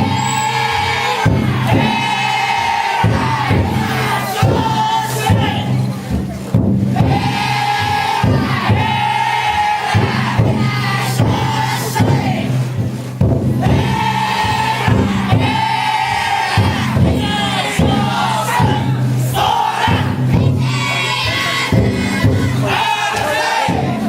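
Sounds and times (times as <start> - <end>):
people chanting drawn-out calls: 0.0 - 6.1, 6.9 - 12.9, 13.5 - 24.0
sharp drum-like thumps: 0.0 - 24.0.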